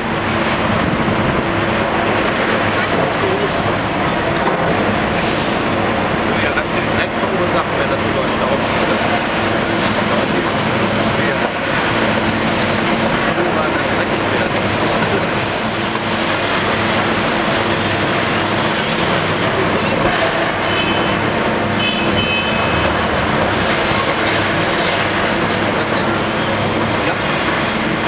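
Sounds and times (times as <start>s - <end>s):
excavators running under load: 0.0s - 28.0s.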